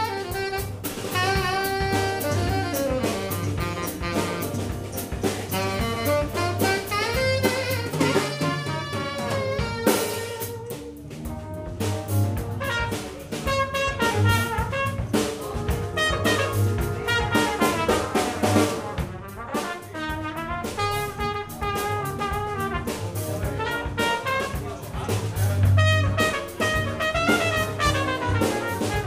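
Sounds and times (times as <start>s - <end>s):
drum kit groove: 0.0s - 29.0s
electric bass: 0.0s - 29.0s
trumpet melody: 0.0s - 29.0s.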